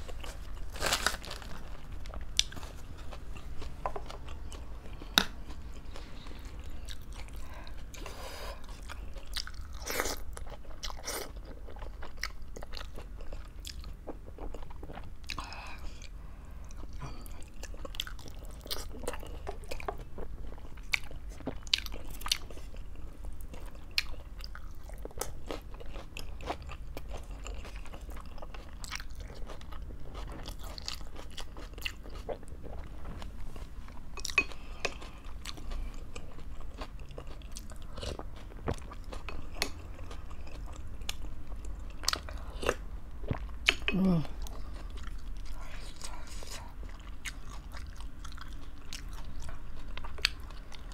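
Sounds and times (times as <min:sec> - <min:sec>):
faint low hum: 0:00.0 - 0:50.9
person chewing and crunching: 0:00.0 - 0:50.9.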